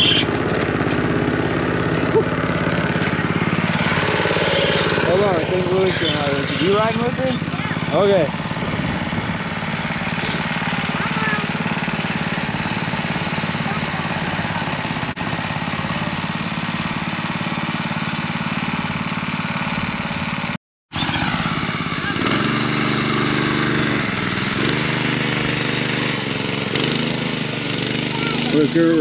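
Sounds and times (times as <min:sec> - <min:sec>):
go-kart engine running: 0:00.0 - 0:29.0.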